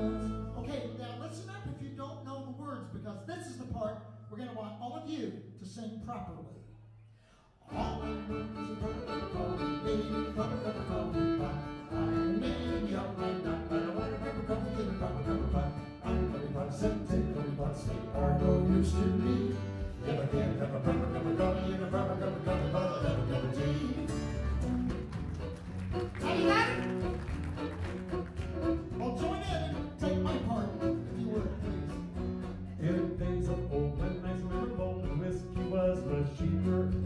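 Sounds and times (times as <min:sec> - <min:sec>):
acoustic band playing bluegrass tune: 0:00.0 - 0:01.4, 0:07.7 - 0:37.0.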